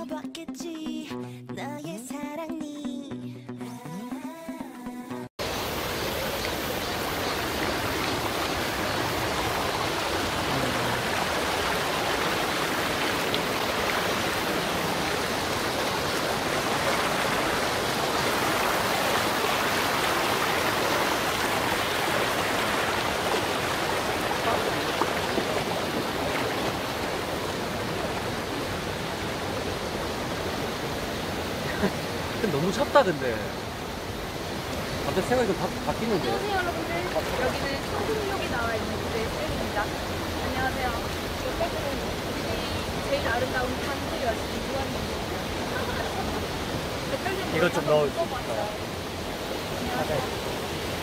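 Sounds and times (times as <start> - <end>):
stream rushing over rocks: 5.4 - 51.0.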